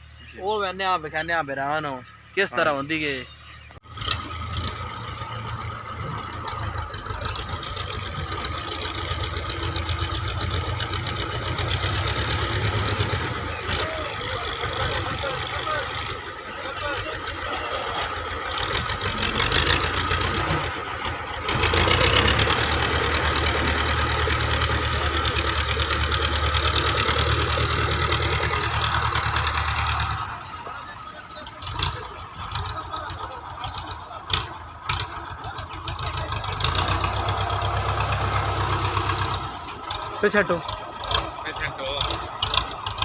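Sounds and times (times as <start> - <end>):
tractor diesel engine: 0.0 - 43.0.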